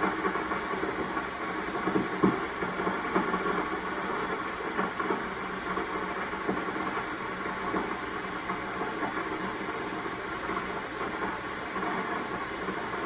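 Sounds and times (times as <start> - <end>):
film projector running: 0.0 - 13.0.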